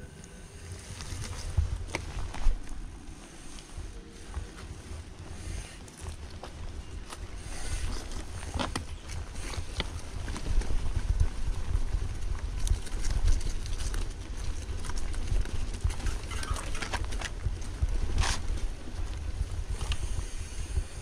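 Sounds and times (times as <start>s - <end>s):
wind rumbling on microphone: 0.0s - 21.0s
bike clicks and rattles: 0.1s - 21.0s.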